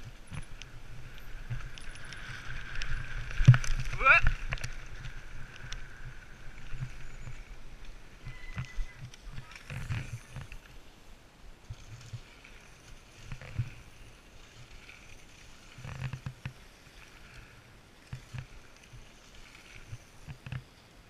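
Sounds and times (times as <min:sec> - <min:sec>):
bikes knocking and rattling: 0:00.0 - 0:21.0.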